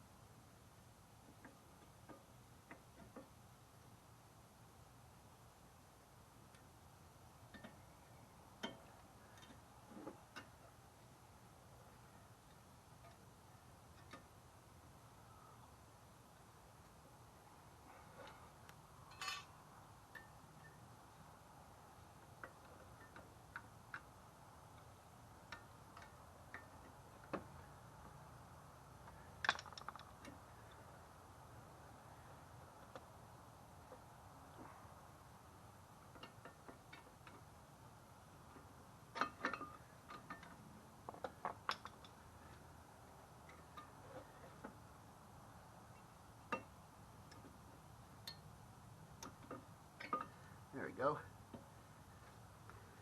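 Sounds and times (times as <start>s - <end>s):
faint low hum: 0.0s - 53.0s.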